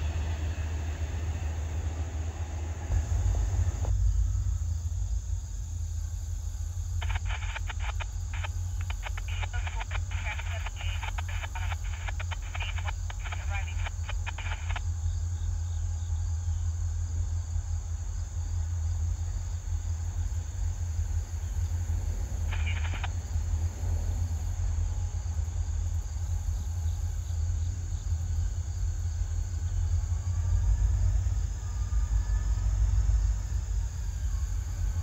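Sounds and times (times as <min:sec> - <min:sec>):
rapid insect chirping: 0:00.0 - 0:35.0
steady low rumble: 0:00.0 - 0:35.0.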